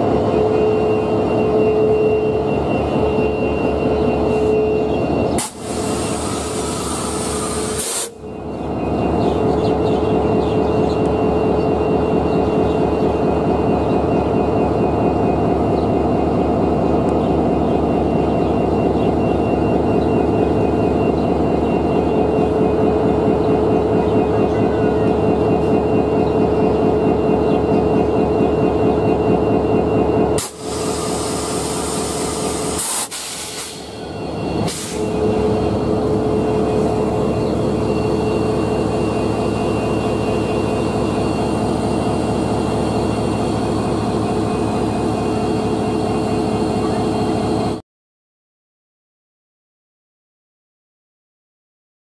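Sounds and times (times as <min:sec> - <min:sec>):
locomotive engine humming: 0:00.0 - 0:47.8.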